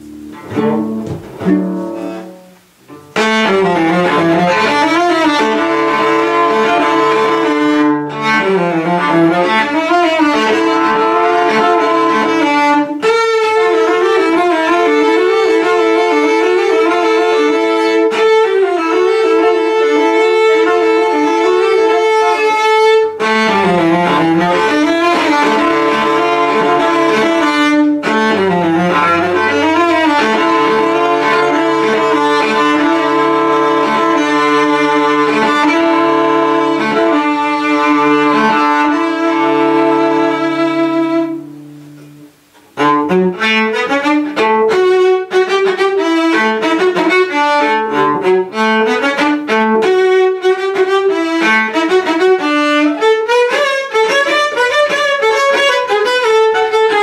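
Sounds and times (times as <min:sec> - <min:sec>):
bowed cello: 0:00.0 - 0:57.0.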